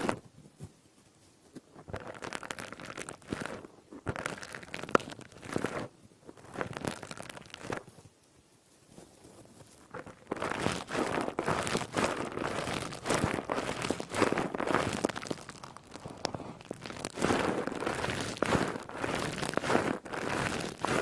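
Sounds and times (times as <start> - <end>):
sponge squishing and crackling: 0.0 - 0.2, 1.6 - 8.0, 8.9 - 21.0.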